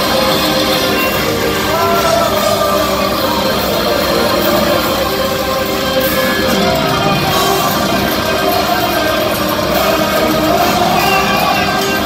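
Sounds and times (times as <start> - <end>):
metal band playing live: 0.0 - 12.0.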